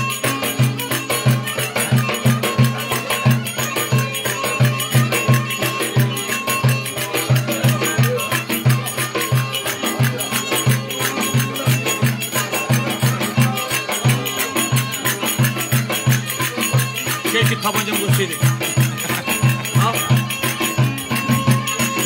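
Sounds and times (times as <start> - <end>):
reedy wind instrument melody: 0.0 - 22.0.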